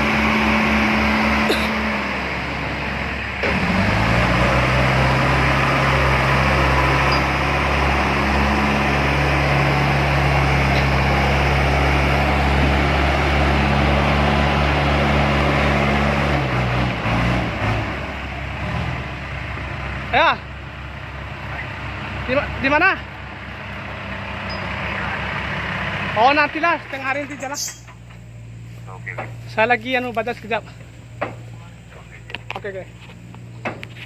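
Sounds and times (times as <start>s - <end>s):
heavy diesel engine under load: 0.0s - 34.0s.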